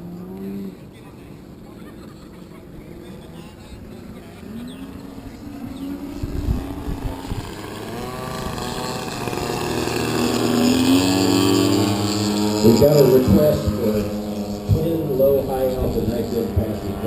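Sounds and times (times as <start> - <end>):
model airplane engines in flight: 0.0 - 17.0.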